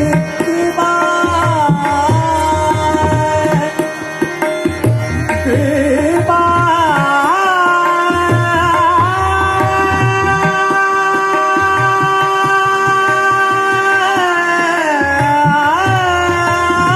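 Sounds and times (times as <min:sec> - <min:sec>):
man singing classical vocal: 0:00.0 - 0:04.0, 0:05.3 - 0:16.9
harmonium: 0:00.0 - 0:16.9
tabla strokes: 0:00.0 - 0:16.9.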